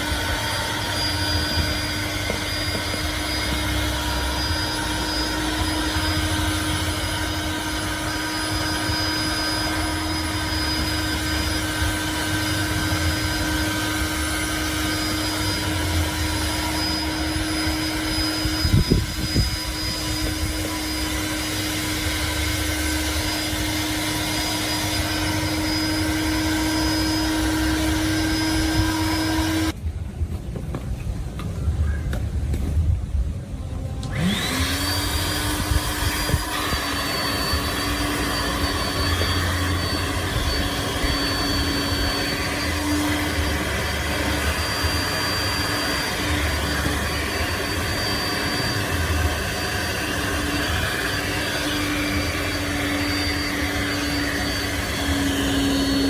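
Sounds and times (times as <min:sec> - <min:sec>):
motor whirring: 0:00.0 - 0:29.8, 0:34.0 - 0:56.0.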